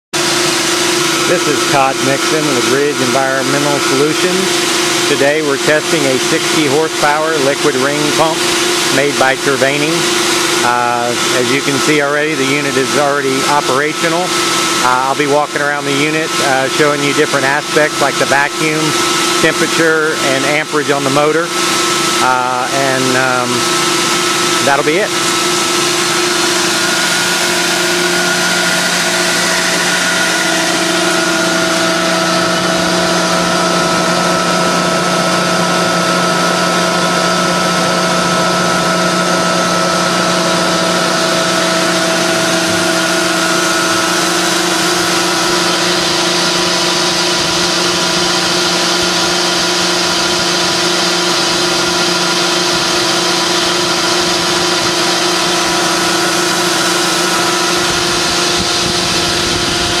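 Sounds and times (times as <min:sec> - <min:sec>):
electric motor and vacuum pump drone: 0:00.2 - 1:00.0.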